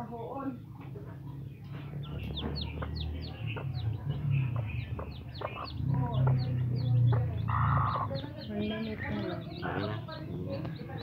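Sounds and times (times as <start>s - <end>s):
chick peeping: 0.8s - 11.0s.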